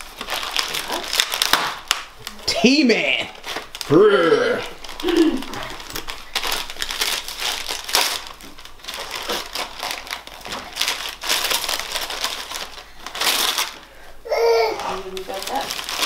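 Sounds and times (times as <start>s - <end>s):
wrapping paper tearing and rustling: 0.0s - 16.0s.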